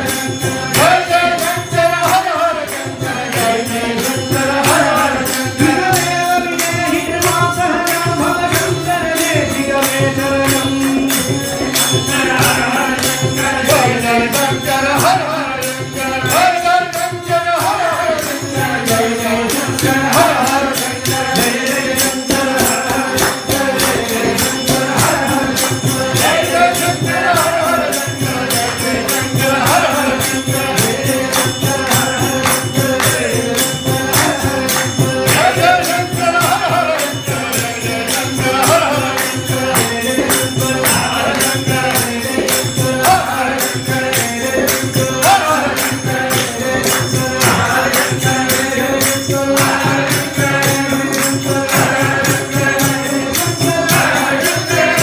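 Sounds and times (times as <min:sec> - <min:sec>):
hand percussion beat: 0:00.0 - 0:55.0.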